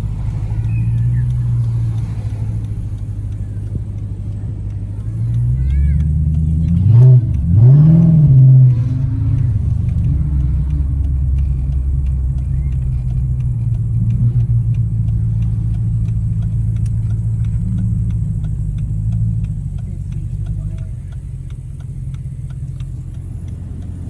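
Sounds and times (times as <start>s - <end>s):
car engine revving: 0.0s - 24.0s
engine and road drone: 0.0s - 24.0s
faint ticking: 0.0s - 24.0s.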